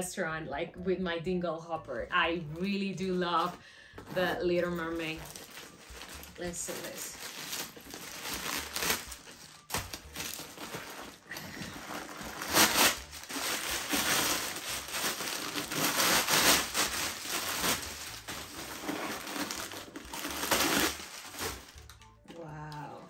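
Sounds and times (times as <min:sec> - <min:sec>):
paper crinkling and rustling: 0:03.3 - 0:22.1.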